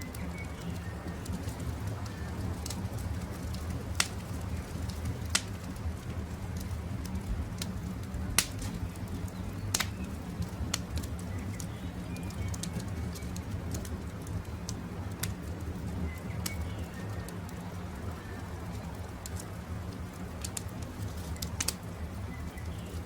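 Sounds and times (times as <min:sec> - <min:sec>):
sharp fire pops: 0:00.0 - 0:22.8
campfire crackling: 0:00.0 - 0:23.0
faint birdsong: 0:00.0 - 0:23.0
rush of flame: 0:00.1 - 0:23.0.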